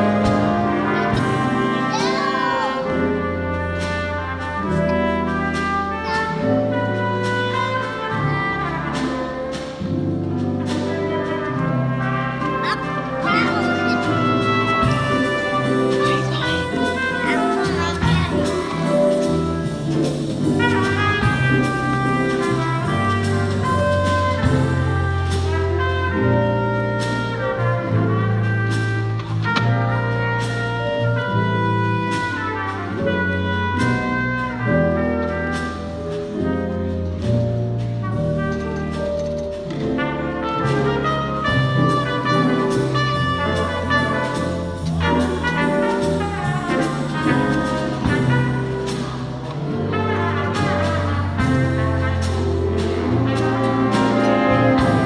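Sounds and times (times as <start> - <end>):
jazz band playing: 0.0 - 55.0.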